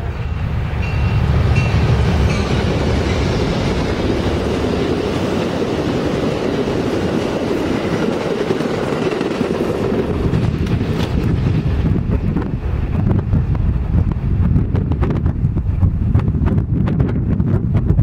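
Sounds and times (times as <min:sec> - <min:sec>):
train passing at speed: 0:00.0 - 0:17.7.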